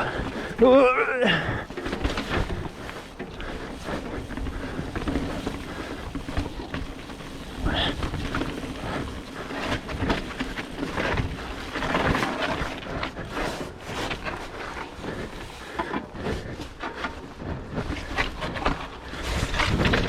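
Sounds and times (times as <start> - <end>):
bike knocking and rattling: 0.0 - 20.0
bike tyres crunching over gravel: 0.0 - 20.0.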